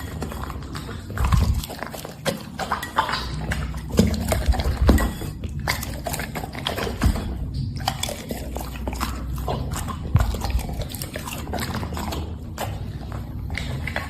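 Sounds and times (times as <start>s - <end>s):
animal eating wet smacking: 0.0s - 14.0s.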